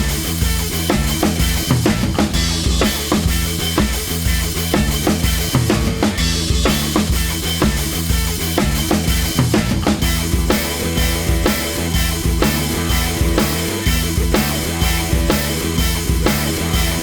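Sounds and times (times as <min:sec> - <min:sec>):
rock music with drums and bass: 0:00.0 - 0:17.0.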